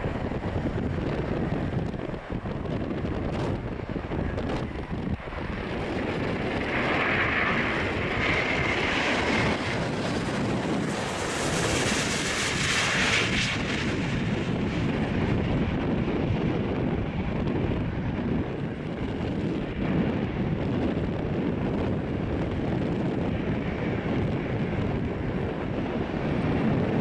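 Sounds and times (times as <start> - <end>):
jet airliner passing: 0.0 - 27.0
wind buffeting microphone: 0.0 - 27.0.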